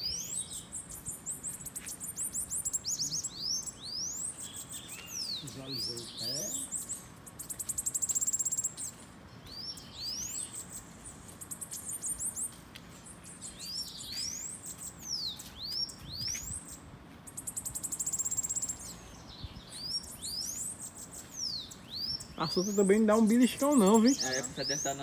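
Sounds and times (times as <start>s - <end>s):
birds singing high notes: 0.0s - 25.0s
rapid high bird trill: 0.0s - 25.0s.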